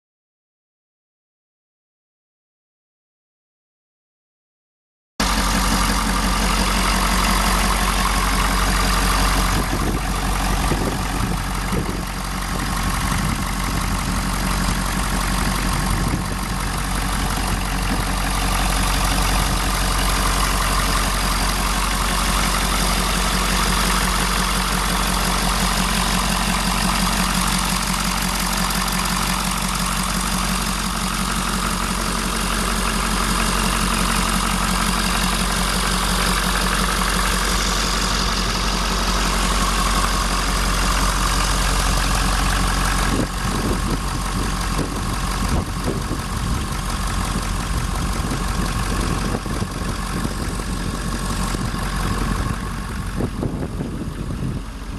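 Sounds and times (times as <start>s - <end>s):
diesel engine idling: 5.2s - 54.9s.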